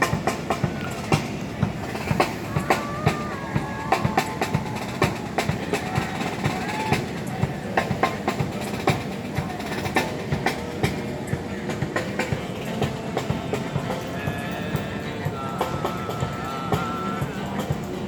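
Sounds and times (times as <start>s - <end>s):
park ambience: 0.0s - 18.0s.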